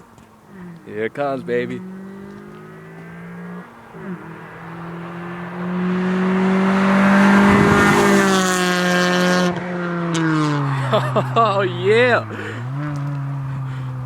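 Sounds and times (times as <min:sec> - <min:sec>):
car engine accelerating past: 0:01.7 - 0:14.0.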